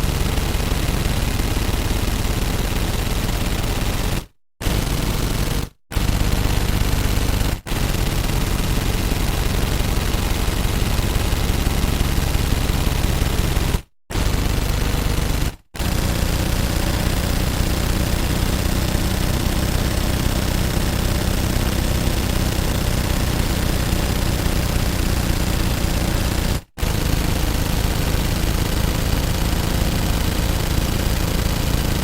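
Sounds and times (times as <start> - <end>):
gatling gun firing: 0.0 - 32.0.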